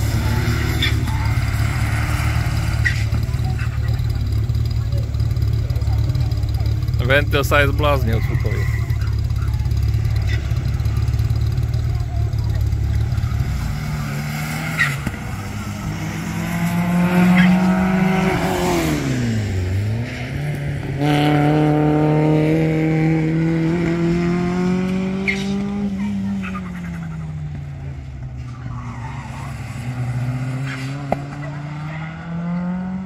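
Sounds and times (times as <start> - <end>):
race car engine revving: 0.0 - 33.0.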